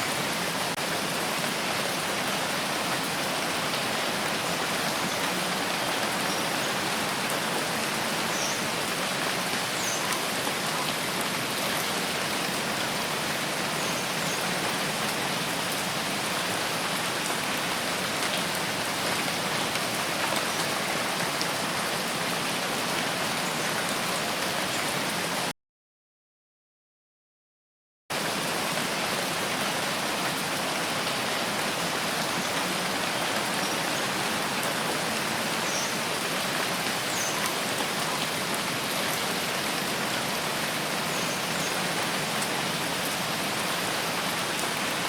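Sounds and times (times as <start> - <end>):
steady rain falling: 0.0 - 25.5, 28.1 - 45.0.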